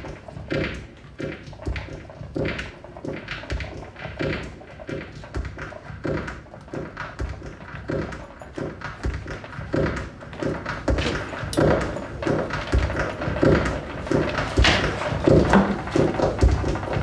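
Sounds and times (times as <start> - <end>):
rhythmic knocks with scratchy scrapes: 0.0 - 17.0.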